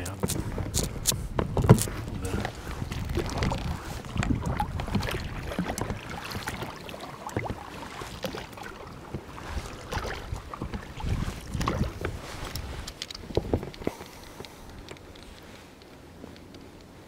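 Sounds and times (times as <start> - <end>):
wind rumble on microphone: 0.0 - 17.0
knocks and splashes from boat hull: 0.3 - 14.0.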